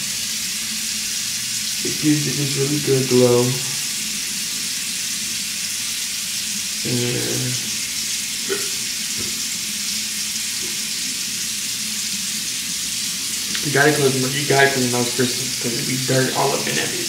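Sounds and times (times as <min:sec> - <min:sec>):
tap water running: 0:00.0 - 0:17.0.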